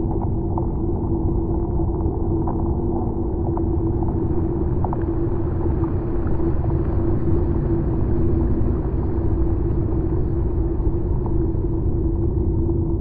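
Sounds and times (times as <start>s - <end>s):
low rumble: 0.0s - 13.0s
lower hum: 0.0s - 13.0s
steady hum: 0.0s - 13.0s.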